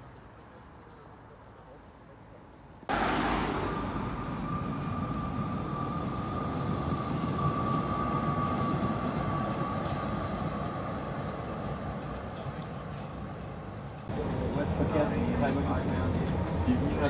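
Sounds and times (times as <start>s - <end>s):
tram wheels rumbling: 2.9s - 17.0s.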